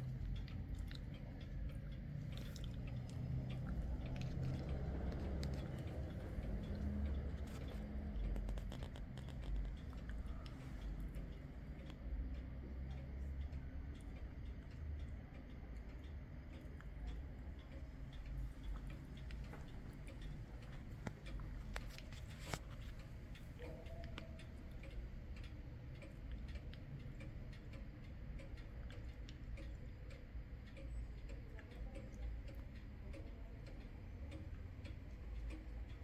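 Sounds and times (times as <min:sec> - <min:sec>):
pendulum clock ticking: 0:00.0 - 0:36.0.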